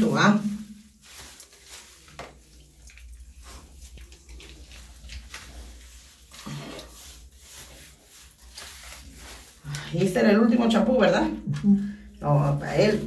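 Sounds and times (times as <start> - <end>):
shower water running and splashing: 0.0 - 13.0.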